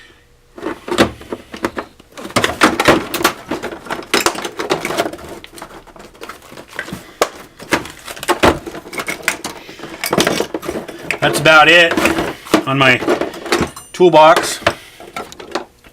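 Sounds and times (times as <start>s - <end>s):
hard tools clattering: 0.6s - 15.9s.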